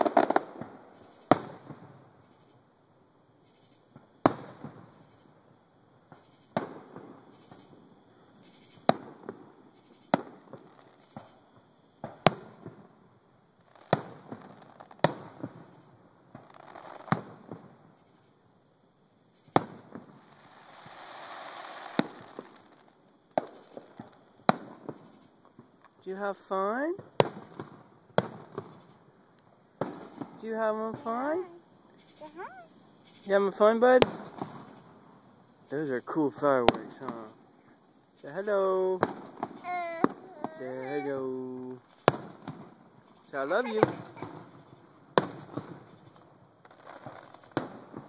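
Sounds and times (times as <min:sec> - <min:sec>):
fireworks bangs: 0:00.0 - 0:02.1, 0:03.9 - 0:05.3, 0:06.1 - 0:11.4, 0:12.0 - 0:12.9, 0:13.7 - 0:17.9, 0:19.4 - 0:29.0, 0:29.8 - 0:37.5, 0:38.2 - 0:48.0
fireworks hissing: 0:00.0 - 0:02.5, 0:03.4 - 0:05.4, 0:06.1 - 0:12.8, 0:13.6 - 0:18.3, 0:19.3 - 0:25.4, 0:26.0 - 0:48.0.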